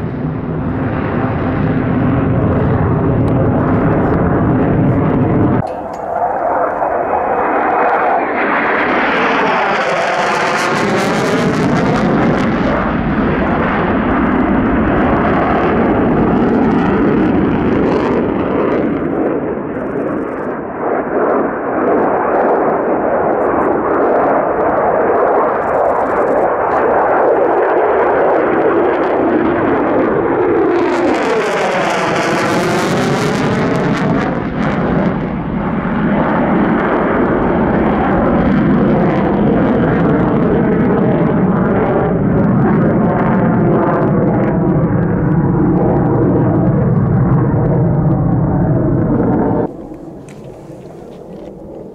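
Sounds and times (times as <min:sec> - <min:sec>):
jet engine roaring overhead: 0:00.0 - 0:51.9.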